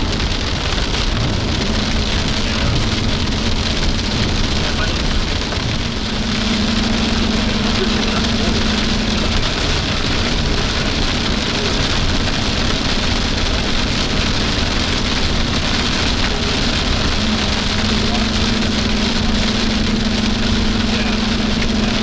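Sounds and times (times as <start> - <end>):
rain hitting a car: 0.0 - 22.0
road and engine noise: 0.0 - 22.0.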